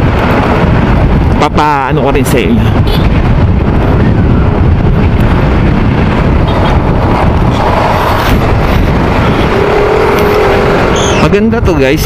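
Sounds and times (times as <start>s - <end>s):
vehicle road and engine rumble: 0.0s - 12.0s
wind buffeting microphone: 0.0s - 12.0s.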